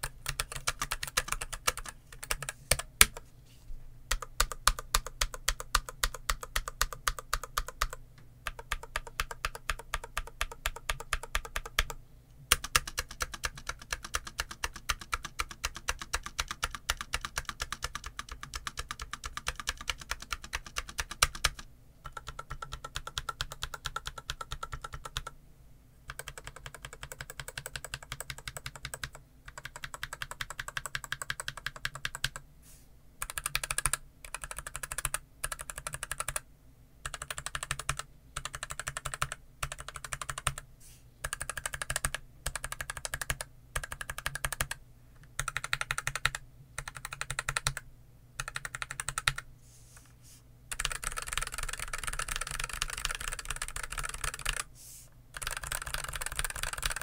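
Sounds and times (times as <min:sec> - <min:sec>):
mechanical keyboard typing: 0:00.0 - 0:03.2, 0:04.1 - 0:25.4, 0:26.1 - 0:32.4, 0:33.2 - 0:36.4, 0:37.0 - 0:40.6, 0:41.2 - 0:47.8, 0:48.4 - 0:49.4, 0:50.7 - 0:54.7, 0:55.3 - 0:57.0.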